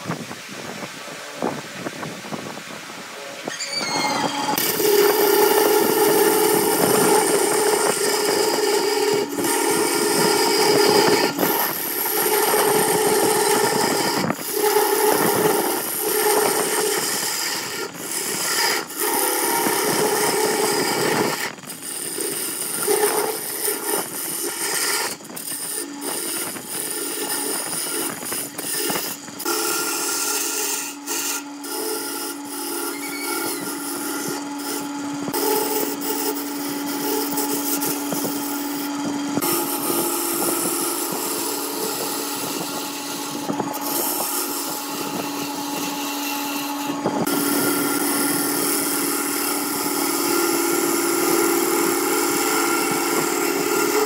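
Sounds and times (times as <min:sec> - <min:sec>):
lathe motor hum: 0:01.2 - 0:54.0
turning tool scraping wood: 0:03.3 - 0:54.0.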